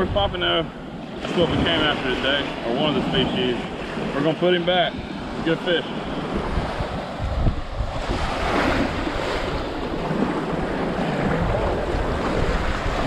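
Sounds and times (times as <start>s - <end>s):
wind buffeting microphone: 0.0s - 13.0s
small waves breaking: 0.4s - 13.0s.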